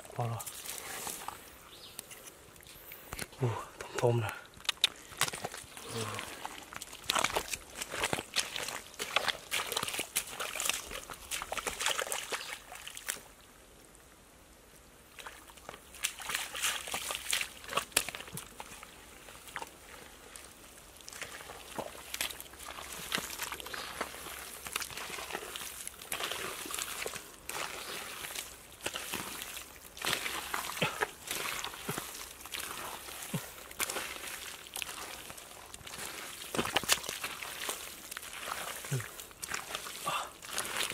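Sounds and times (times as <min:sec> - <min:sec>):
wet mud squelching: 0:00.0 - 0:13.4, 0:15.1 - 0:40.9.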